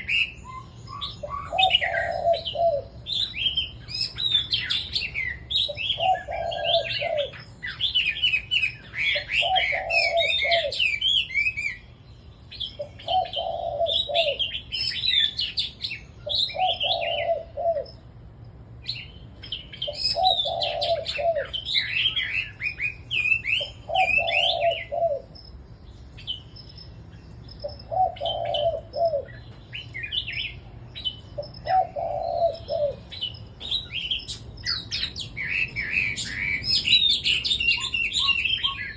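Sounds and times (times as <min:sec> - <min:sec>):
dove cooing: 0:00.0 - 0:11.8, 0:12.8 - 0:18.1, 0:19.7 - 0:25.4, 0:27.6 - 0:30.6, 0:31.3 - 0:38.9
bulbuls singing high phrases: 0:00.0 - 0:12.0, 0:12.6 - 0:18.0, 0:19.2 - 0:25.4, 0:27.6 - 0:38.9.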